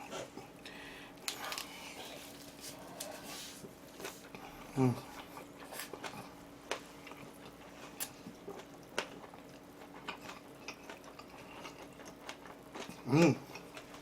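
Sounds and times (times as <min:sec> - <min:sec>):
quiet chewing: 0:00.0 - 0:14.0.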